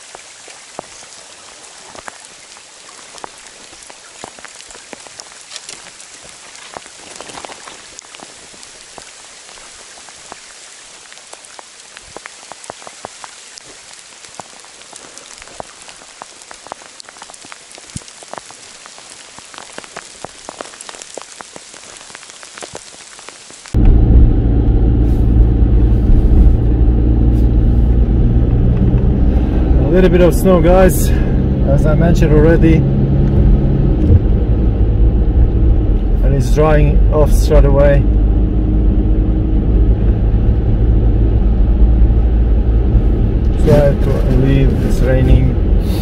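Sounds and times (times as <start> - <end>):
rain and sleet hissing: 0.0 - 33.4, 36.1 - 46.0.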